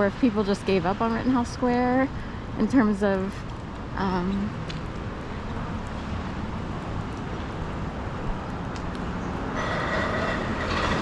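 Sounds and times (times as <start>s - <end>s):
passing vehicles rumbling: 0.0s - 11.0s.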